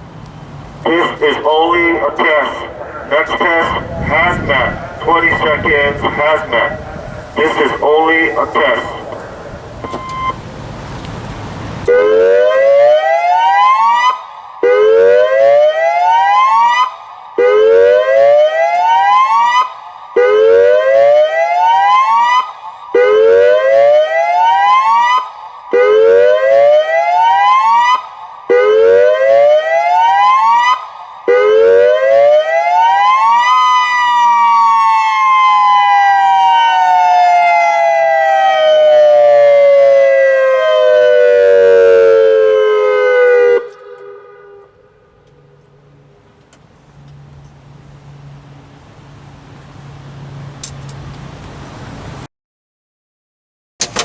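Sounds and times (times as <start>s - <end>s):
warning siren whooping: 0.8s - 46.2s.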